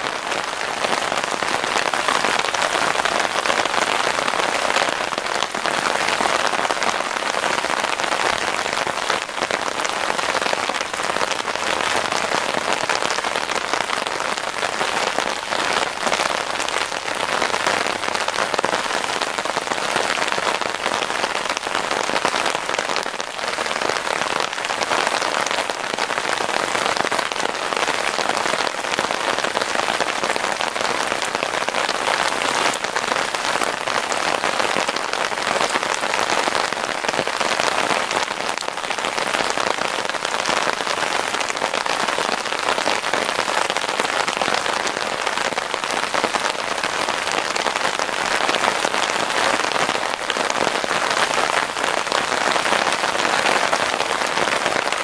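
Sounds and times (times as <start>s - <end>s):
rain on gravel and puddles: 0.0s - 55.0s.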